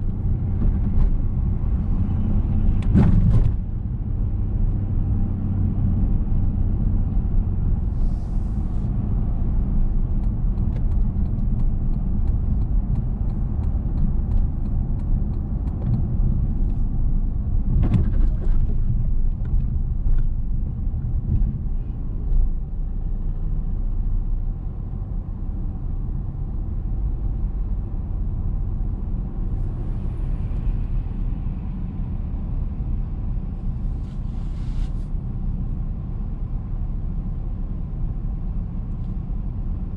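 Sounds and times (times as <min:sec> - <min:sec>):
car driving in traffic: 0:00.0 - 0:39.9.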